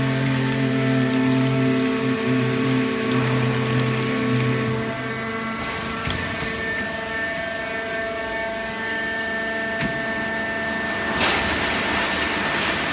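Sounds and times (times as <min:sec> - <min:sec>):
baler machine hum and whine: 0:00.0 - 0:12.9.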